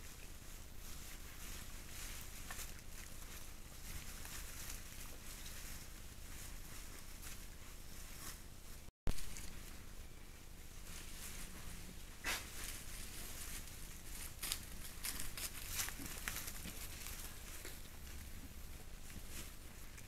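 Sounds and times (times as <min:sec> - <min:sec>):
steady hiss: 0:00.0 - 0:19.9
boar rustling in dry leaves: 0:00.0 - 0:20.0.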